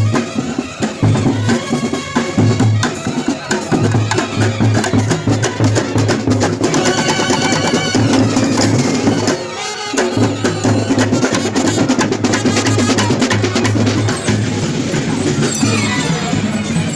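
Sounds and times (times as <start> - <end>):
loud fast drumming: 0.0 - 16.9.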